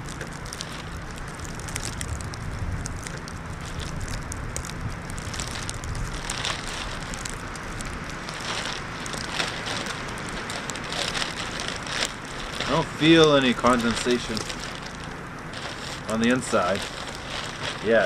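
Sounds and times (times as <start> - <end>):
plastic bag crackling: 0.0 - 18.0
wind rumbling on microphone: 0.0 - 18.0.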